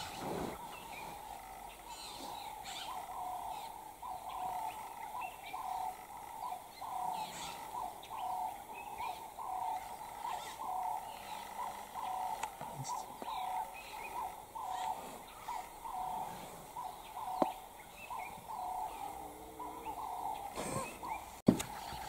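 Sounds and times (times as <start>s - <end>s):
bird hooting: 0.0s - 22.0s.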